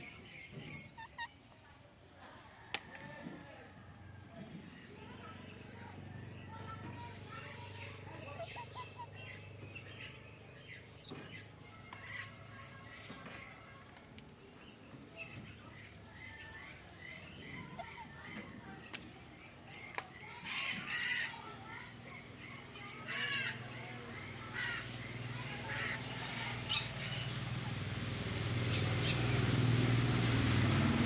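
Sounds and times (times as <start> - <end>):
birds harsh calls: 0.0 - 30.9.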